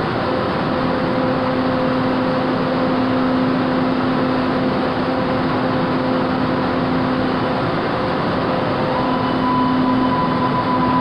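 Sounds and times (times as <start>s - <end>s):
low electrical hum: 0.0s - 11.0s
subway station rumble: 0.0s - 11.0s.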